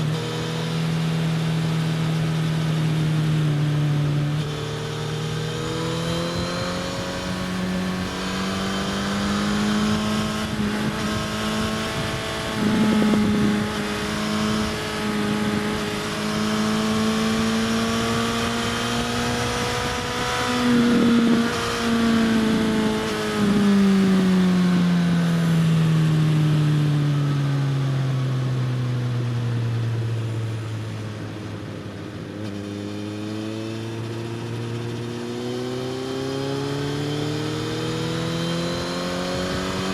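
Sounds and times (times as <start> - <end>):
wind noise: 0.0 - 25.0, 29.6 - 39.9
motorcycle engine revving: 0.0 - 39.9.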